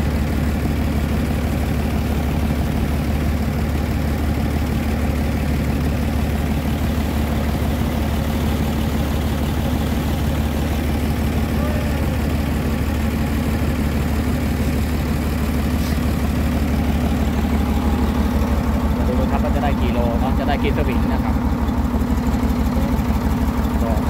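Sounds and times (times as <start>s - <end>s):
engine droning steadily: 0.0s - 24.0s.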